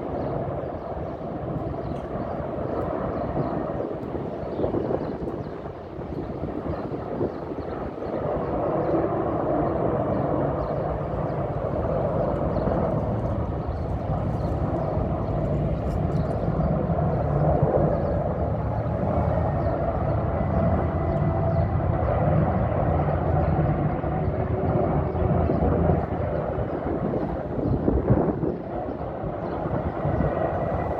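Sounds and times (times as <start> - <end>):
helicopter rotors and turbines droning: 0.0 - 30.9.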